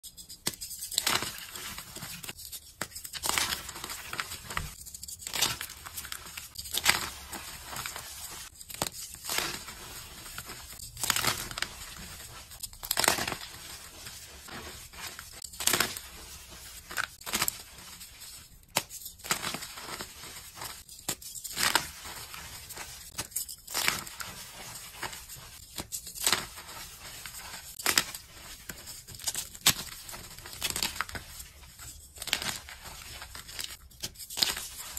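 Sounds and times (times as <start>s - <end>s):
chalk blocks crunching: 0.2s - 34.9s.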